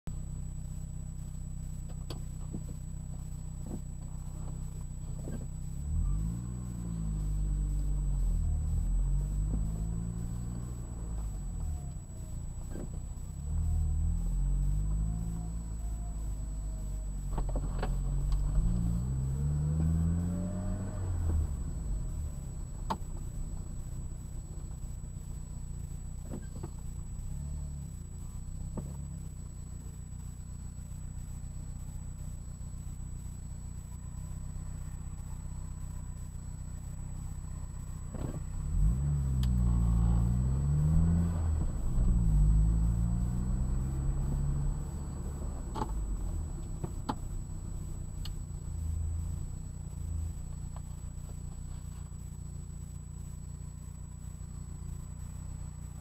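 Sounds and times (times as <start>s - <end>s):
car engine accelerating: 0.1s - 56.0s.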